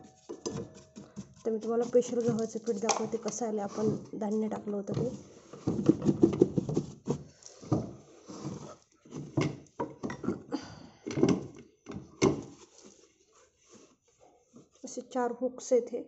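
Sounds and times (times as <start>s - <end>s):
knocks and thumps of handling: 0.0s - 13.1s.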